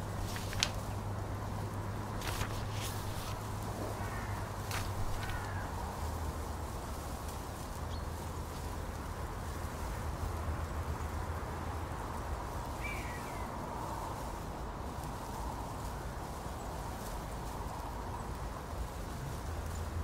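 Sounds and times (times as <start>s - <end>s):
steady background hum and hiss: 0.0s - 20.0s.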